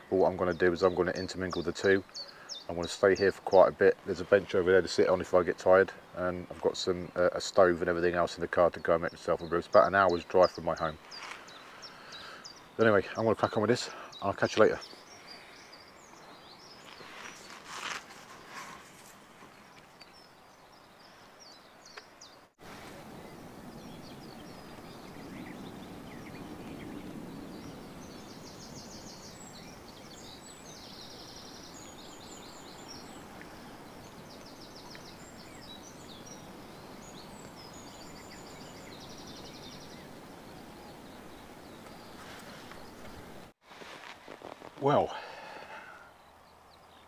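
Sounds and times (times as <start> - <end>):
small birds singing: 0.0 - 47.0.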